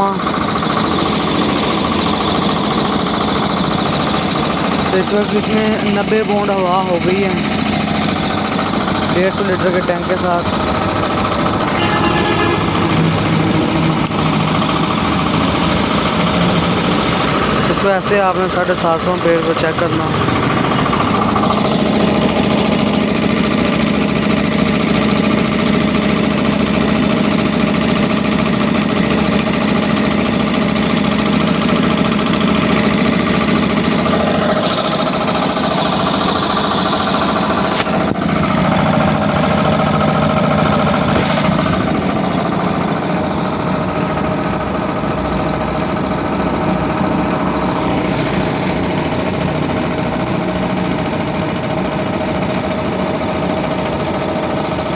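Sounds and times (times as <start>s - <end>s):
air compressor clattering: 0.0s - 54.9s.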